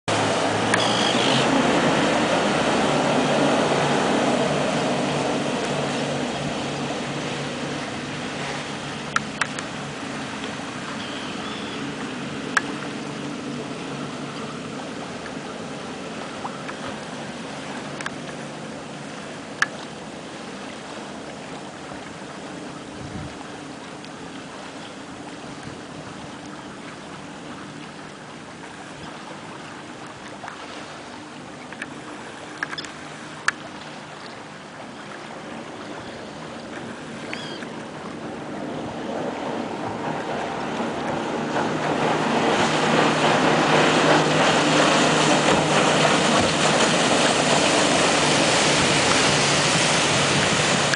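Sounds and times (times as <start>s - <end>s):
motorboat engine droning: 0.0s - 50.9s
water rushing past hull: 0.0s - 50.9s.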